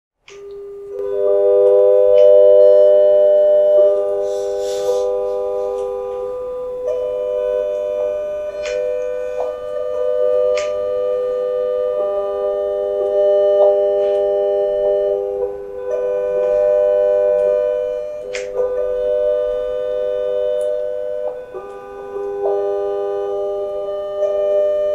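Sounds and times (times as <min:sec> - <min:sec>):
steady sine tones chord: 0:00.2 - 0:24.9.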